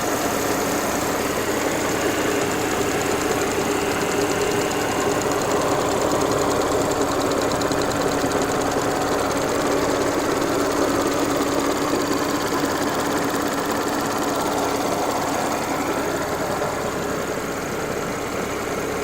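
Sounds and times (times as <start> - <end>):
car engine idling with clatter: 0.0 - 19.0.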